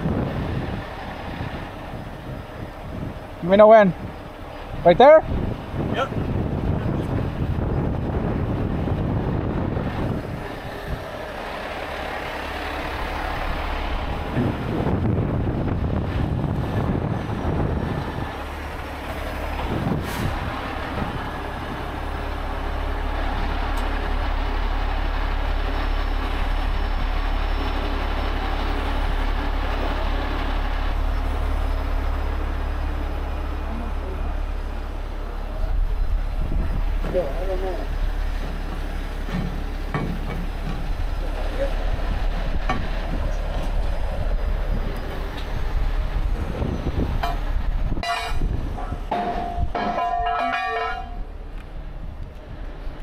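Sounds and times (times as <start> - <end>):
diesel truck engine running: 0.0 - 53.0.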